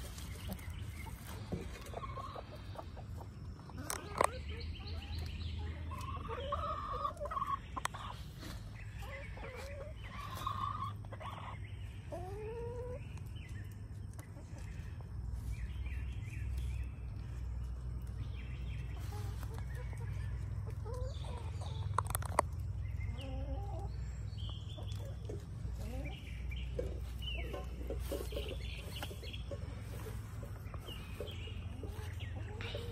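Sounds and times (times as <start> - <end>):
hens clucking: 0.0 - 32.9.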